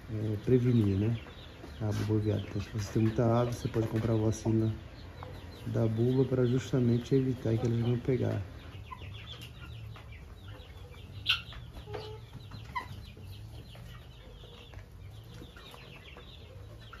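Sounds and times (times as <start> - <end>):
birds pecking on ground: 0.0 - 17.0
hens clucking: 0.0 - 17.0.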